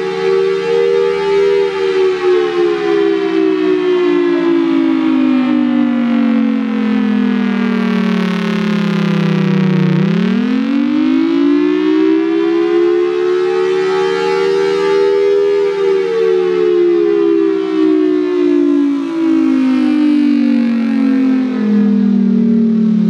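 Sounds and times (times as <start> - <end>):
two-tone siren wailing: 0.0 - 23.0.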